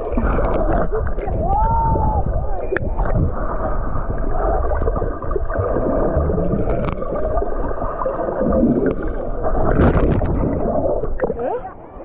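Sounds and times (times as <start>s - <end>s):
muffled rough sea water churning: 0.0s - 12.0s.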